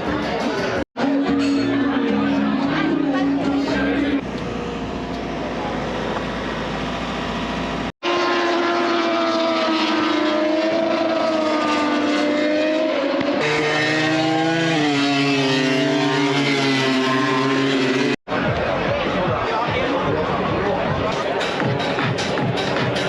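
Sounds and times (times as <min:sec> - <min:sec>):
race motorcycle engines at high revs: 0:00.0 - 0:18.6.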